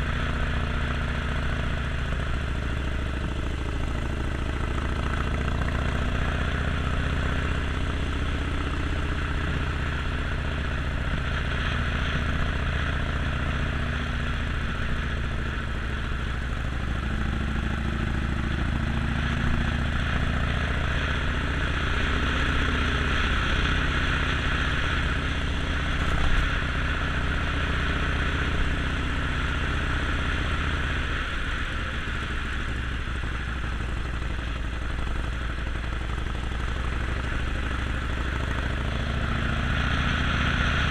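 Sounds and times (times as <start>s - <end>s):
constant rushing noise: 0.0s - 40.9s
motorcycle engine running: 0.0s - 40.9s.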